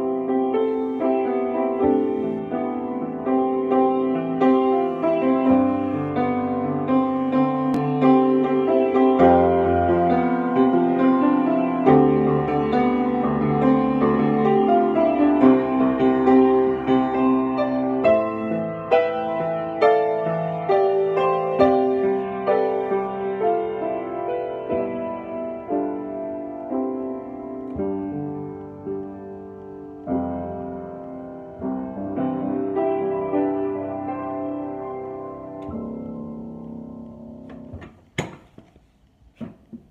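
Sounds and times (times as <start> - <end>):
piano chords: 0.0 - 38.2.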